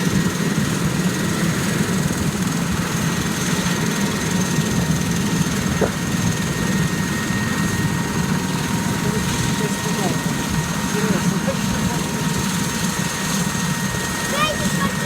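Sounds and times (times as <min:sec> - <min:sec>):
helicopter rotor beat: 0:00.0 - 0:15.0.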